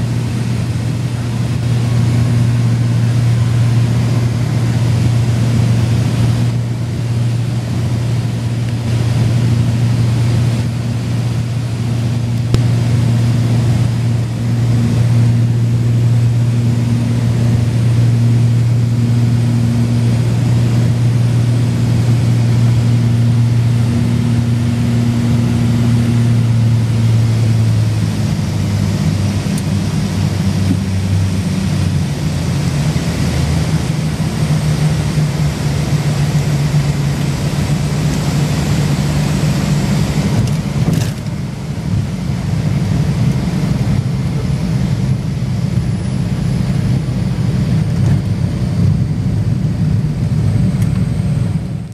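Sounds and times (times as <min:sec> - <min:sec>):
propeller engines droning: 0:00.0 - 0:51.9.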